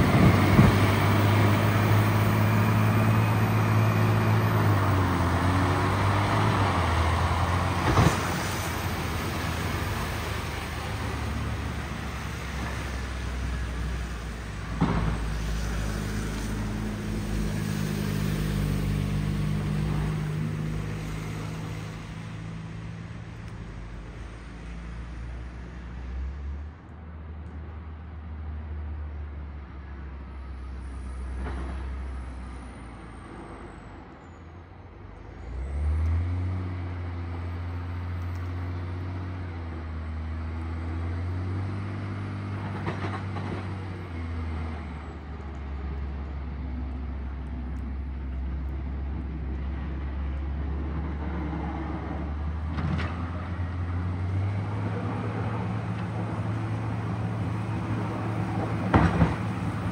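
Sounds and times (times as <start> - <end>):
diesel engine under load: 0.0 - 59.9
plow blade scraping road: 0.0 - 59.9.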